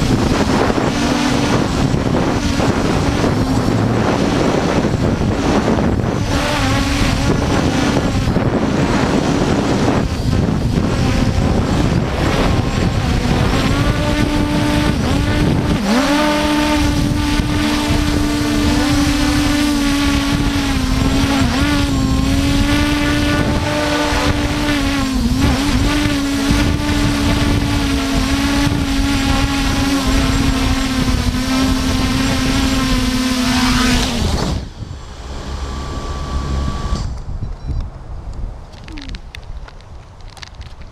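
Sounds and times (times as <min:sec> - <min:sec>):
drone propellers whining: 0:00.0 - 0:37.8
wind buffeting microphone: 0:00.0 - 0:40.9.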